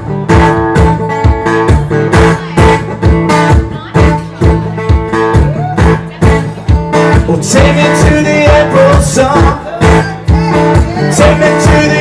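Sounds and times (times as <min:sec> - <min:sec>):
guitar over a steady beat: 0:00.0 - 0:12.0.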